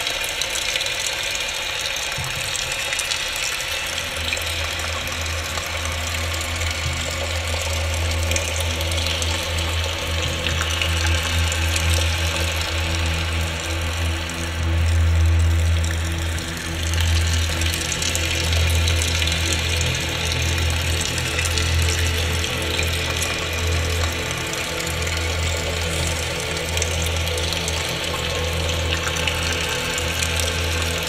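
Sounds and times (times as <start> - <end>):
deep low drone: 2.2 - 31.0.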